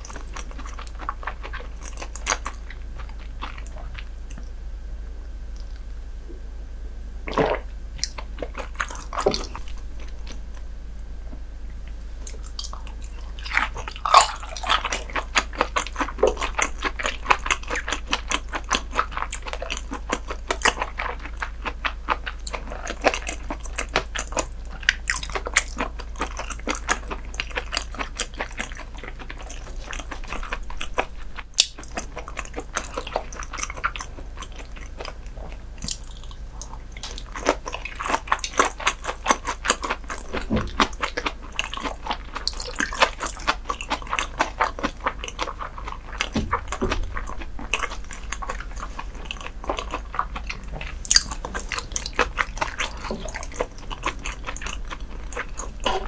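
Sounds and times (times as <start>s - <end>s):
wet chewing mouth sounds: 0.0s - 4.6s, 7.3s - 10.7s, 11.7s - 56.0s.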